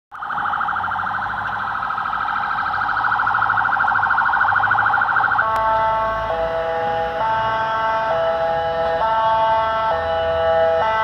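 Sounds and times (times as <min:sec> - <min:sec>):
ambulance siren: 0:00.1 - 0:11.0.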